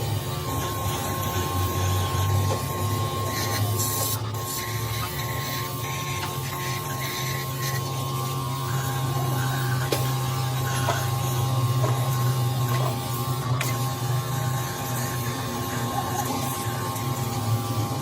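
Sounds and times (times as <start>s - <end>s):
machine motor hum: 0.0s - 18.0s
steady machine whine: 0.0s - 18.0s.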